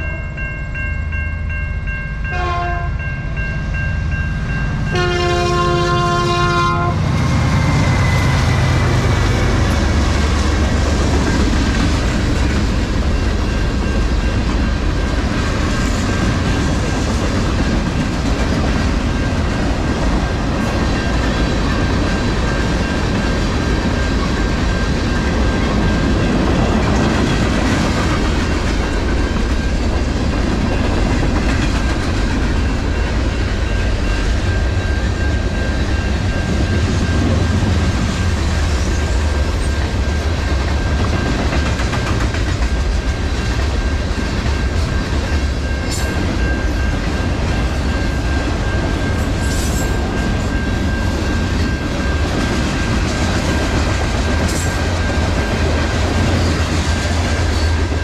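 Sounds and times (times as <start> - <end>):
train wheels clacking over rails: 7.1 - 58.0.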